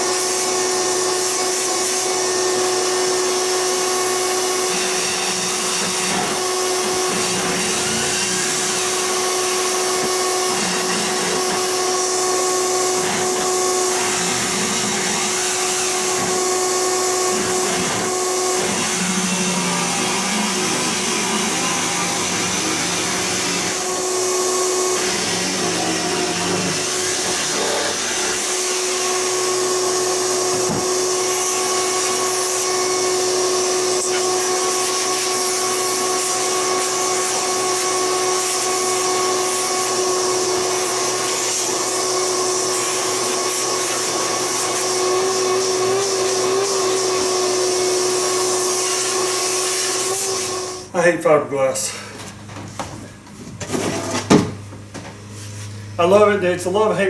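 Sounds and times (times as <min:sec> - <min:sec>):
power tool cutting fiberglass: 0:00.0 - 0:50.9.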